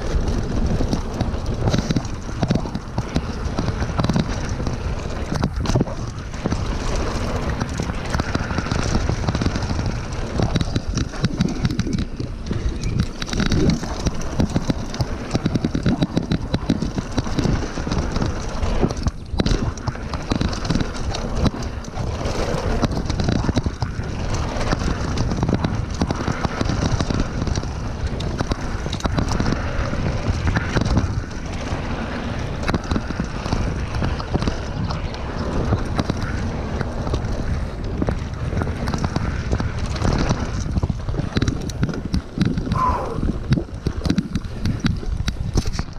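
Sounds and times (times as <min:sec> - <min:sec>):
bike rattling over bumps: 0:00.0 - 0:45.9
tyres on loose dirt: 0:00.0 - 0:45.9
wind on microphone: 0:00.0 - 0:45.9.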